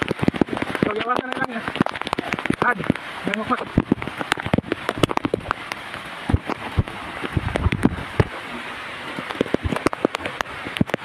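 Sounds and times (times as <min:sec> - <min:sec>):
heavy rain on a metal roof: 0:00.0 - 0:11.0.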